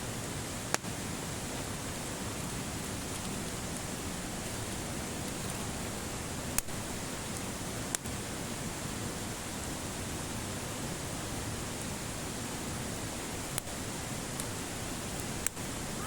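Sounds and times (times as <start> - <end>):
campfire hissing and crackling: 0.0 - 16.0.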